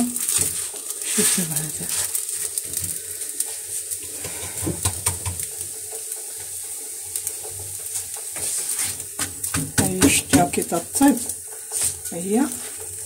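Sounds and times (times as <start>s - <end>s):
dough sizzling on a griddle: 0.0s - 13.0s.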